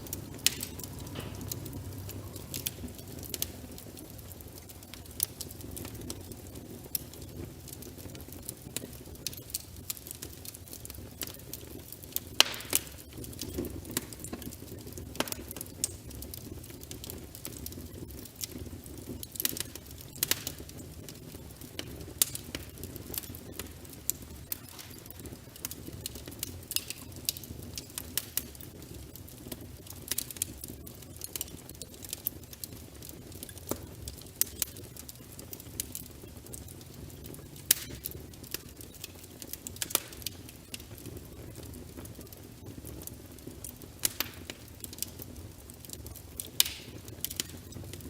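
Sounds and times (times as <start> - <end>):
low rumble of flames: 0.0 - 48.0
wood crackling and popping: 0.0 - 48.0.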